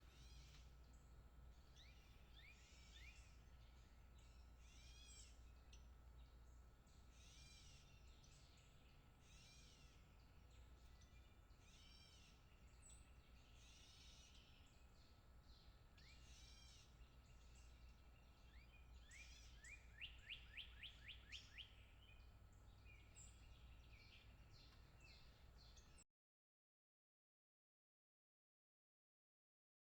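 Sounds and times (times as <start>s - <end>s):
faint birdsong: 0.0s - 26.0s.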